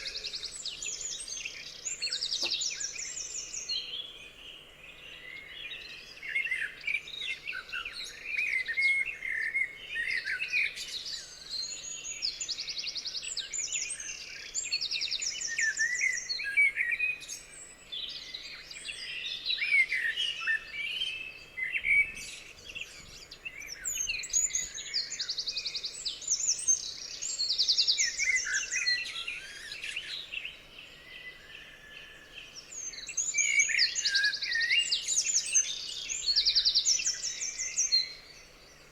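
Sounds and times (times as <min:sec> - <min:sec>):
songbird chorus: 0:00.0 - 0:38.9.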